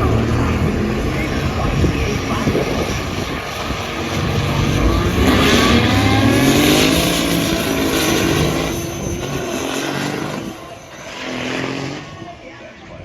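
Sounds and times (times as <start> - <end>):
diesel truck engine revving: 0.0 - 12.1.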